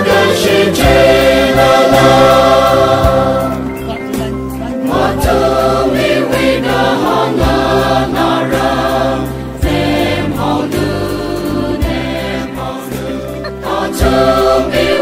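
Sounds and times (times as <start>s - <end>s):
choir singing a slow hymn: 0.0s - 15.0s.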